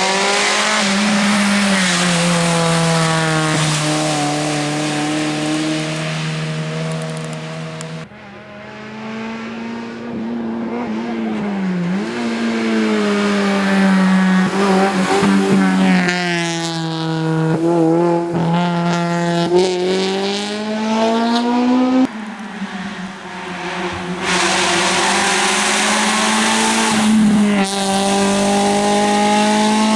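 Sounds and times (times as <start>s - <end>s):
car engine revving hard: 0.0s - 8.0s, 8.9s - 29.9s.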